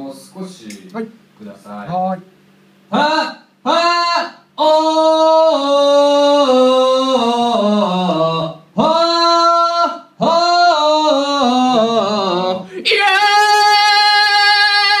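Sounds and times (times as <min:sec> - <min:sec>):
man singing unaccompanied: 0:02.9 - 0:15.0.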